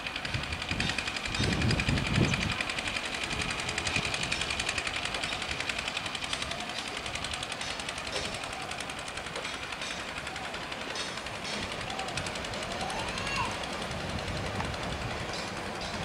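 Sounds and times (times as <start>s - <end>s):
diesel locomotive running: 0.0s - 16.0s
train clatter on bridge: 0.0s - 16.0s.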